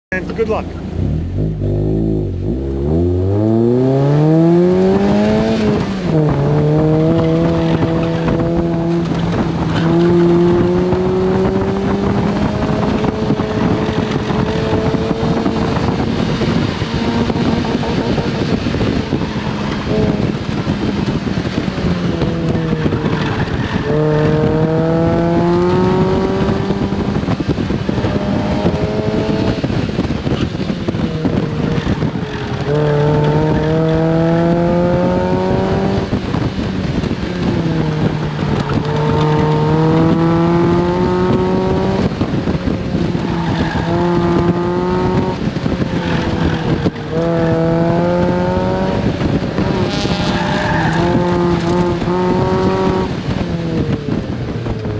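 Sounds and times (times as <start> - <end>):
car engine revving: 0.1 - 54.9.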